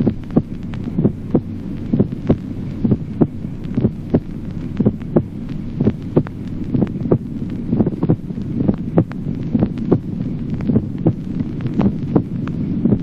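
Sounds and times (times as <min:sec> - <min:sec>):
heartbeat through stethoscope: 0:00.0 - 0:13.0
steady low hum: 0:00.0 - 0:13.0.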